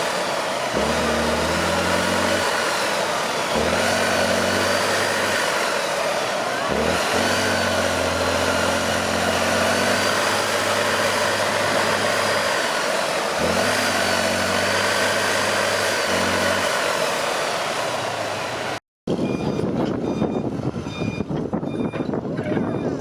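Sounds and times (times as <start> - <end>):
truck engine working hard: 0.0 - 23.0.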